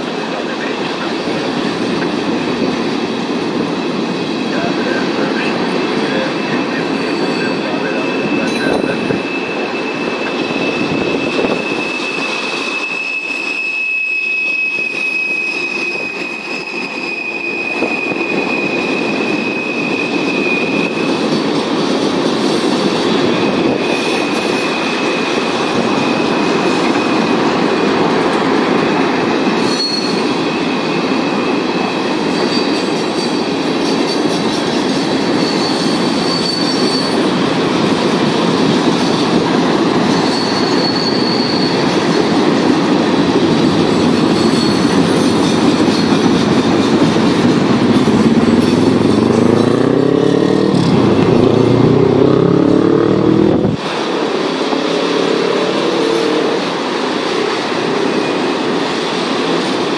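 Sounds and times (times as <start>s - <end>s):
train wheels rumbling on rails: 0.0s - 59.9s
high wheel squeal: 4.3s - 59.9s.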